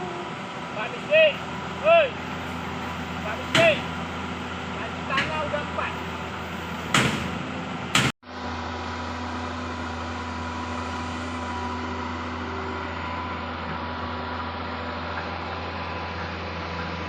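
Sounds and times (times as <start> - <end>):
diesel engine hum with whine: 0.0 - 17.0.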